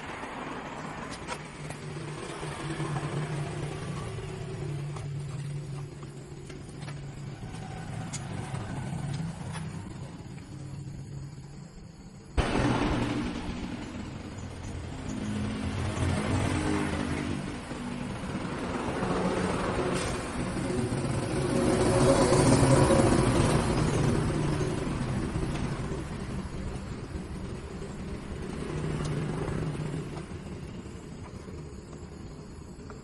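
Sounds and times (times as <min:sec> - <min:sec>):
vehicle engines passing by: 0:00.0 - 0:11.2, 0:12.4 - 0:32.4.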